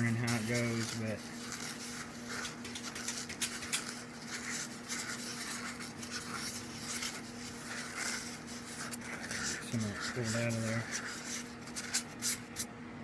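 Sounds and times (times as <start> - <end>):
scratching and scraping carving: 0.0 - 12.7.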